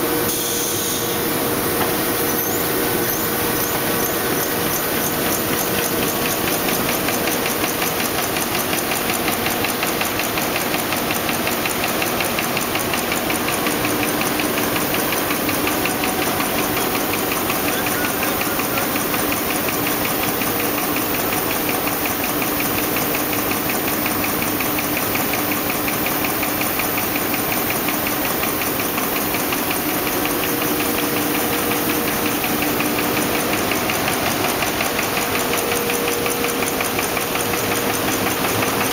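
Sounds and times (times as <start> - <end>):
machine clattering: 1.5 - 38.9.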